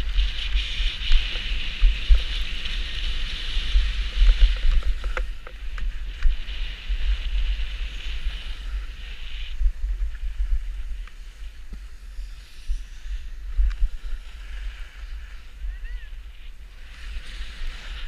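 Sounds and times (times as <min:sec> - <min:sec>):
steady hiss: 0:00.0 - 0:18.0
wind buffeting microphone: 0:00.0 - 0:18.0.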